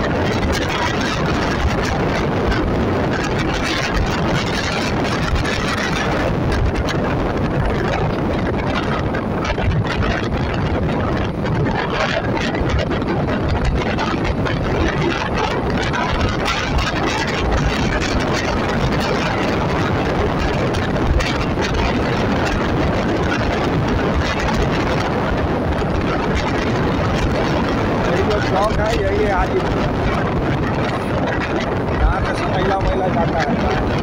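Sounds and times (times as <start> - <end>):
vehicle road and engine noise: 0.0 - 34.0
wind buffeting microphone: 0.0 - 34.0.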